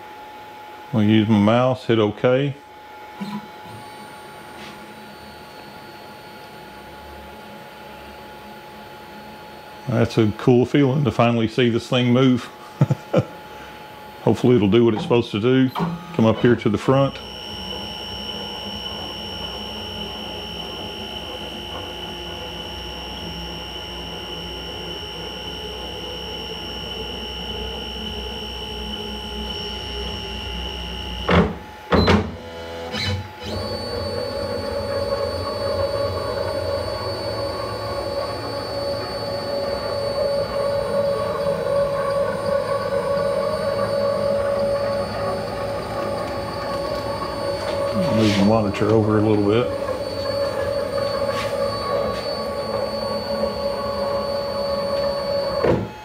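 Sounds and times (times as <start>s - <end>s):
stepper motor whine: 2.8s - 56.0s.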